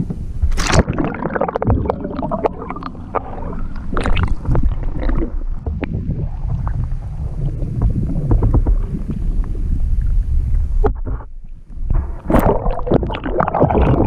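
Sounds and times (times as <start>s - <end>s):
wind rumble on microphone: 0.0s - 0.9s, 1.6s - 14.0s
water splashing and gurgling: 0.0s - 14.0s.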